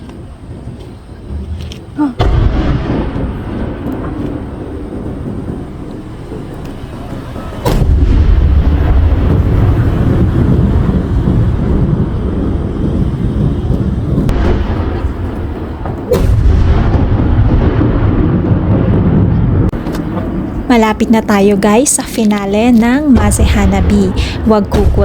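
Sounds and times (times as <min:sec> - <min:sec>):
deep rumbling booms: 0:00.0 - 0:25.0
firework sharp bang: 0:02.1 - 0:20.7, 0:23.1 - 0:25.0.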